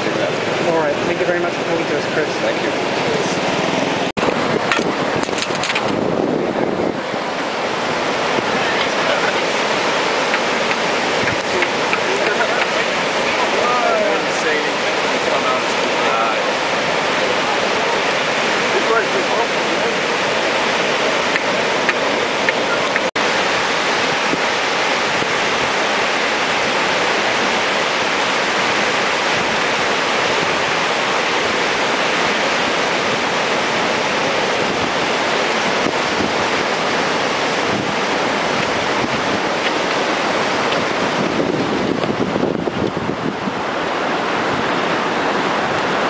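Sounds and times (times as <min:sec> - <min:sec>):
surf breaking on beach: 0:00.0 - 0:46.0
wind buffeting microphone: 0:00.0 - 0:46.0.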